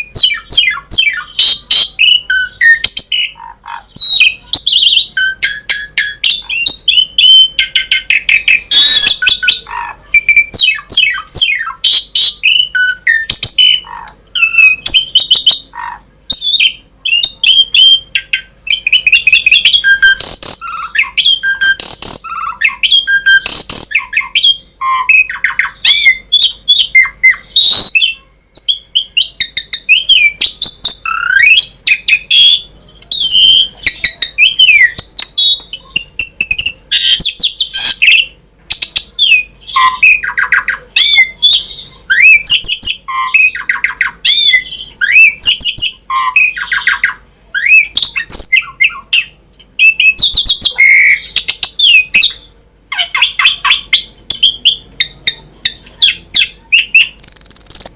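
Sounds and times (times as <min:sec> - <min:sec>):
starling singing: 0:00.0 - 0:57.9.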